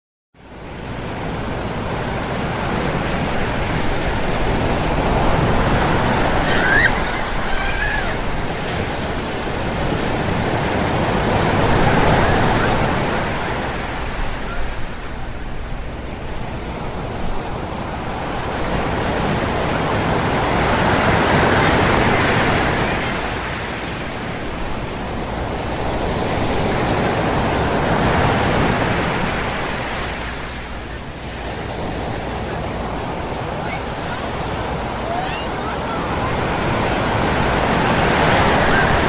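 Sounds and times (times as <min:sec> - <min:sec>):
ocean waves washing in: 0:00.4 - 0:39.0.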